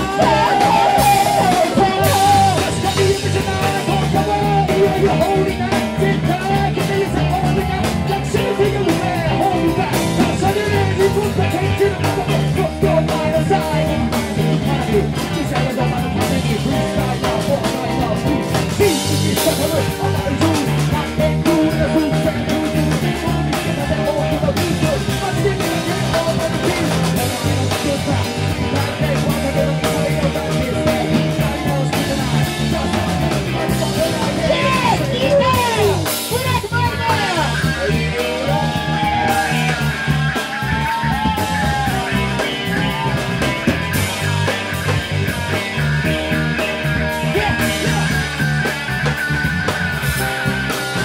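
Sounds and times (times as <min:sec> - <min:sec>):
person singing: 0:00.0 - 0:49.4
drum kit: 0:00.0 - 0:51.0
electric guitar: 0:00.0 - 0:51.0.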